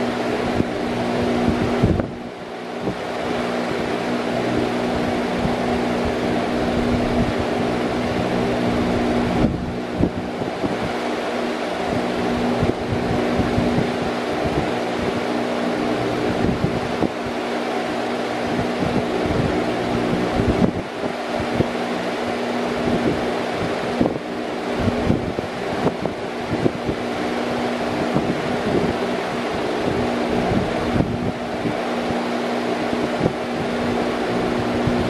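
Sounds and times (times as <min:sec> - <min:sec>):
electric fan running: 0:00.0 - 0:35.0.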